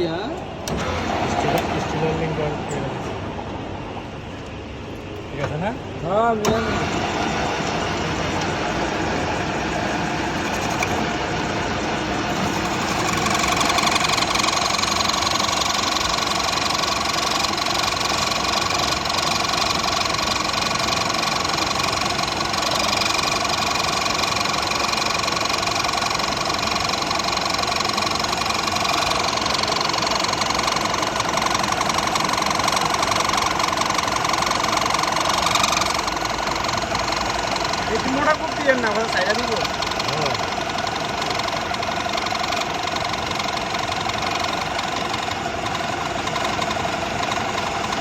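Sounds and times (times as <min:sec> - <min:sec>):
metal lathe humming: 0:00.0 - 0:04.4, 0:05.9 - 0:48.0
steady high whine: 0:00.0 - 0:48.0.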